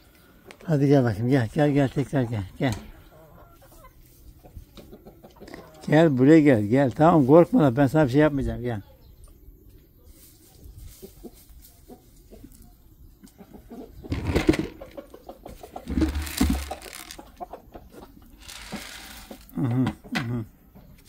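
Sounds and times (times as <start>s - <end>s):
chicken clucking: 1.6s - 6.4s, 8.7s - 21.0s.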